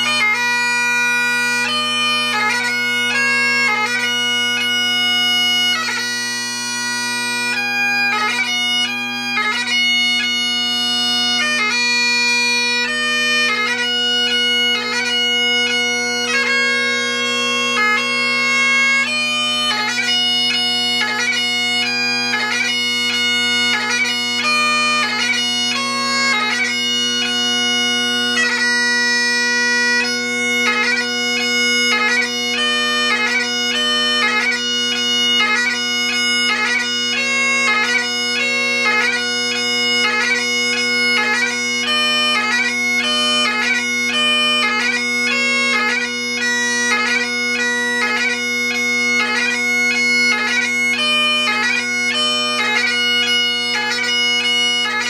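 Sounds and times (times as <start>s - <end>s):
bagpipe chanter melody: 0.0s - 55.0s
bagpipe drones humming: 0.0s - 55.0s.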